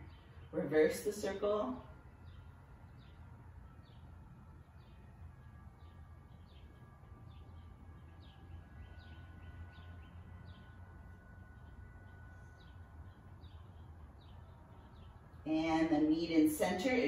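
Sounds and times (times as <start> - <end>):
faint bird chirping: 0.0 - 17.0
low steady hum: 0.0 - 17.0.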